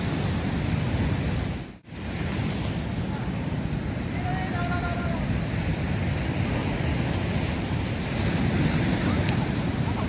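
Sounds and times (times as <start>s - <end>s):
sea surf washing onto shore: 0.0s - 10.0s
wind rumbling on microphone: 0.0s - 10.0s.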